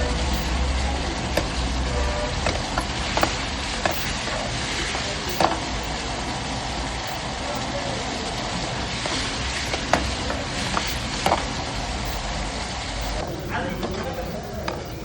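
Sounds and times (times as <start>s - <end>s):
curry sizzling in a pan: 0.0s - 13.6s.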